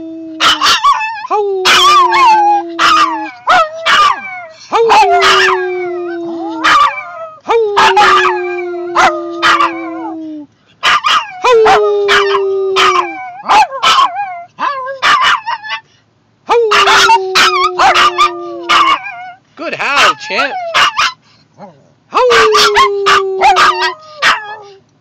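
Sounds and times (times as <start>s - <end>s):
puppy yips and howls: 0.0s - 10.2s, 10.8s - 15.9s, 16.5s - 19.4s, 20.0s - 24.8s
dogs howling: 0.3s - 10.2s, 10.8s - 15.8s, 16.5s - 19.4s, 20.0s - 24.8s.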